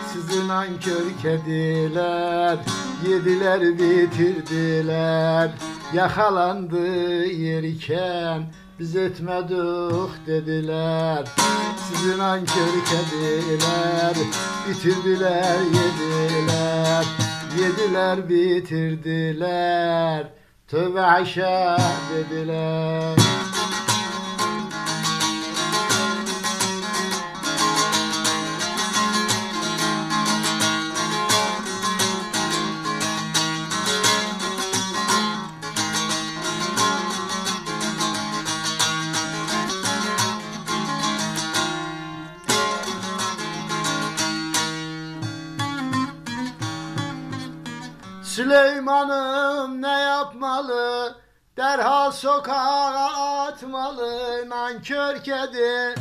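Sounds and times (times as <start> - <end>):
long-necked lute strumming: 0.0 - 20.2, 20.9 - 51.0, 52.1 - 56.0.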